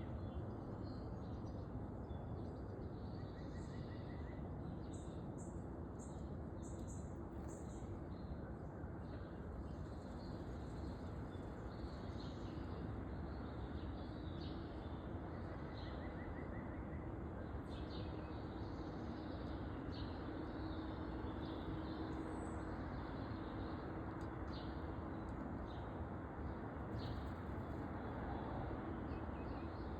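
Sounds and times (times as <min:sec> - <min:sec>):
songbirds chirping: 0:00.0 - 0:27.4
steady background noise: 0:00.0 - 0:29.9.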